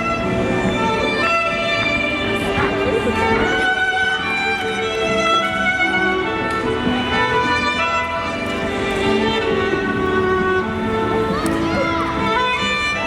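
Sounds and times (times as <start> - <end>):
violin-led string music: 0.0 - 13.0.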